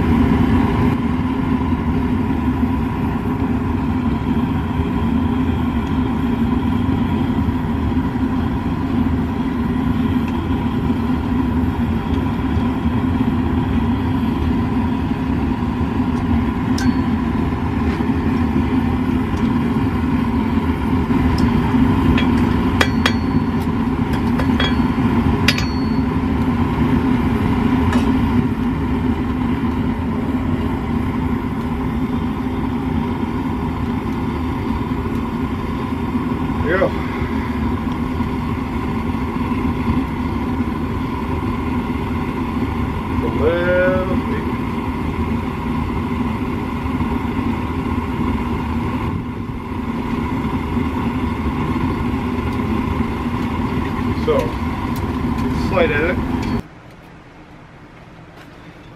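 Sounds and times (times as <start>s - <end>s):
gas forge burner running: 0.0s - 58.9s.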